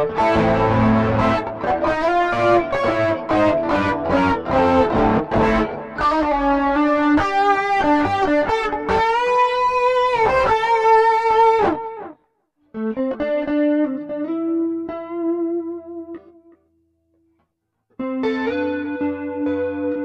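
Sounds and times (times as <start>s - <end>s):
electric guitar lead lines: 0.0s - 16.6s, 18.0s - 20.0s.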